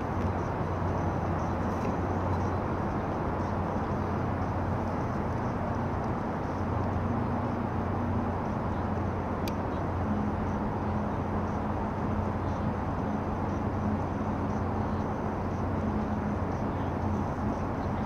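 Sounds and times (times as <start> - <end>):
distant traffic rumble: 0.0 - 18.0
faint steady hum: 0.0 - 18.0.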